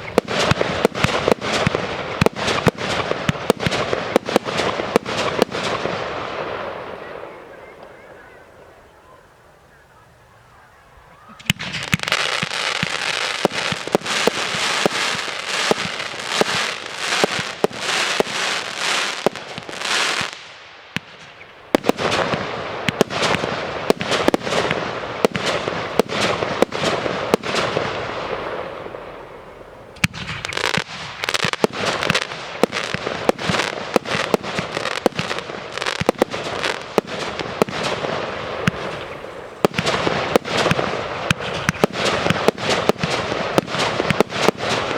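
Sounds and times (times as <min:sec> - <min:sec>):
fireworks bangs and crackling: 0:00.0 - 0:09.3, 0:11.2 - 0:44.9.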